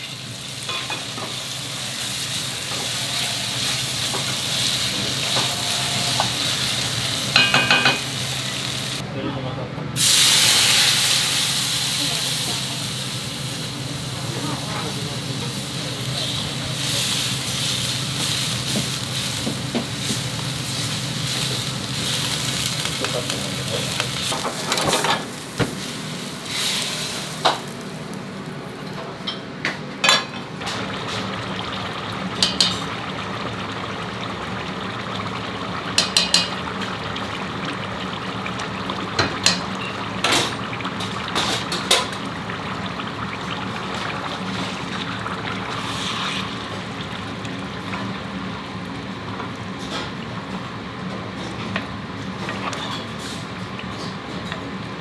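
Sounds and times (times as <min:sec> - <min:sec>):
food sizzling in a pan: 0:00.0 - 0:09.0, 0:10.0 - 0:28.7, 0:30.6 - 0:49.0.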